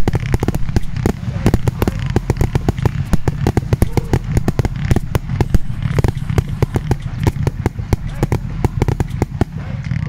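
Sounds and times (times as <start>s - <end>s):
fireworks cracking and banging: 0.0s - 10.0s
low rumble: 0.0s - 10.0s.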